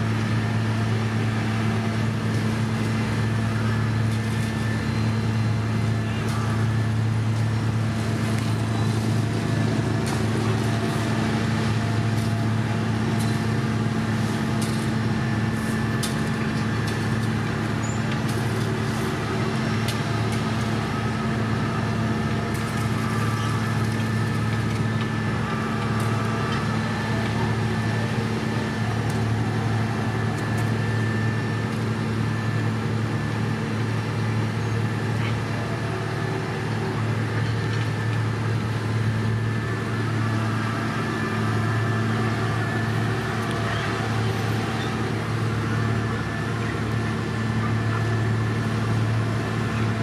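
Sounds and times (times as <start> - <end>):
diesel engines humming: 0.0 - 50.0.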